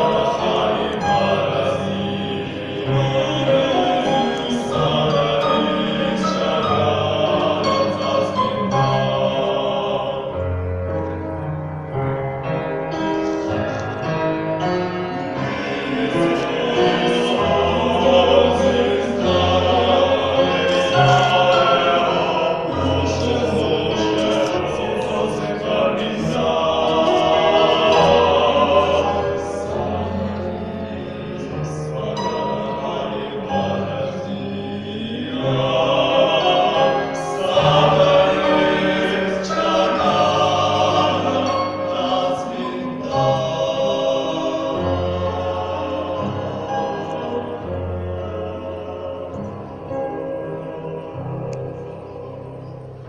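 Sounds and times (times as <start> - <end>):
choir singing in parts: 0.0 - 11.3, 12.5 - 53.0.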